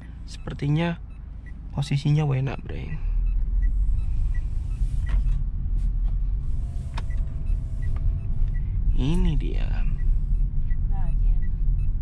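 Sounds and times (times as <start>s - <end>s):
car cabin rumble: 0.0s - 12.0s
turn signal ticking: 0.0s - 12.0s.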